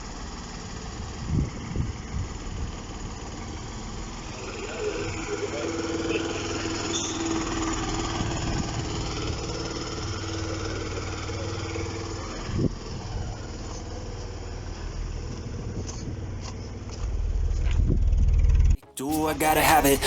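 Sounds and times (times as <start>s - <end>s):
car engine idling: 0.0s - 18.8s.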